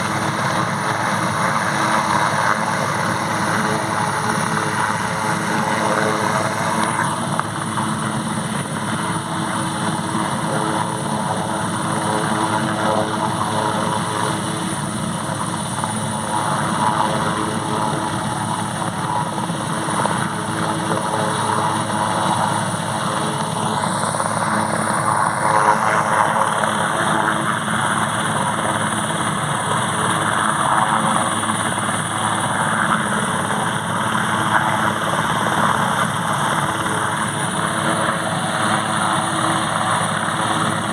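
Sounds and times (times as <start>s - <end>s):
helicopter turbine whine: 0.0s - 40.9s.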